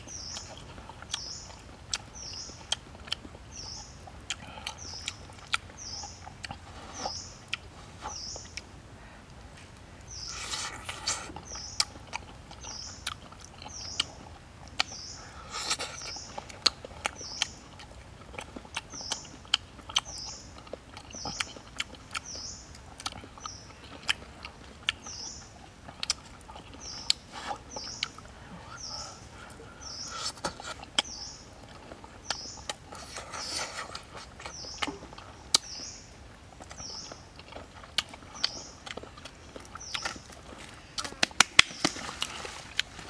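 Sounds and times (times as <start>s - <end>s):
chewing and mouth clicks: 0.0s - 8.7s, 9.6s - 43.0s.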